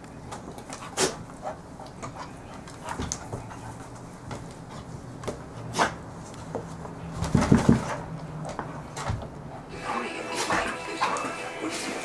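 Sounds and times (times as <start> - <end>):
dogs scuffling on wooden floor: 0.3 - 12.0.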